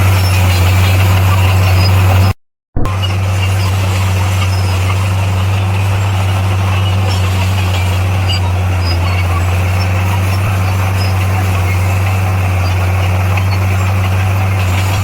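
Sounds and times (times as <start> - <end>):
heavy diesel engine running: 0.0 - 15.0
hissing wash: 2.9 - 15.0.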